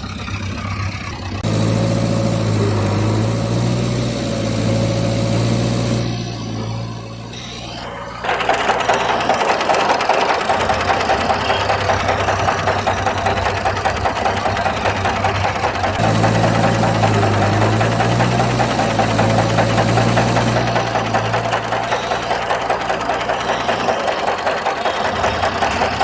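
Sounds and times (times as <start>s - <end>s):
motor clattering: 0.0s - 26.0s.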